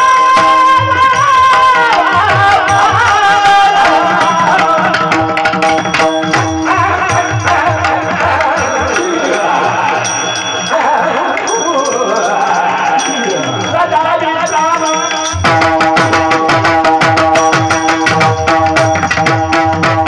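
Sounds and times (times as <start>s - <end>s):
man singing devotional melody: 0.0s - 20.0s.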